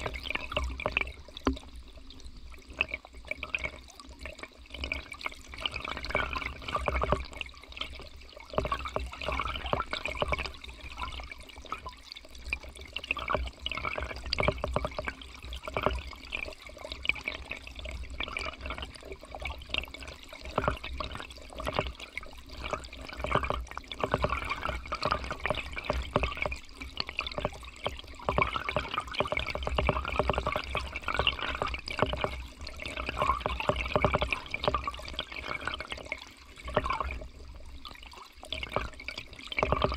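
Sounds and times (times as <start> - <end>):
river water gurgling underwater: 0.0 - 39.9.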